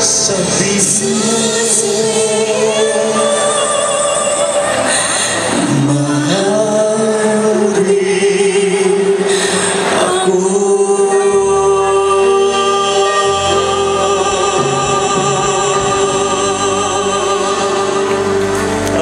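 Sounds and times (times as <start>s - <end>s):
backing chords: 0.0s - 19.0s
vocal group singing a ballad: 0.0s - 19.0s.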